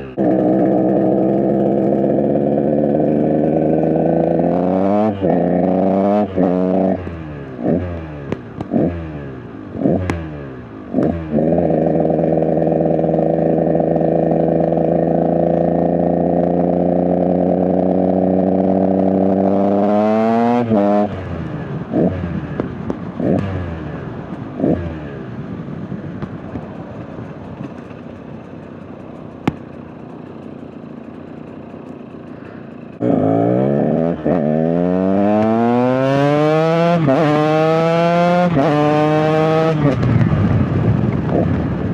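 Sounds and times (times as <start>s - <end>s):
dirt bike engine revving: 0.0s - 24.0s, 29.4s - 41.9s.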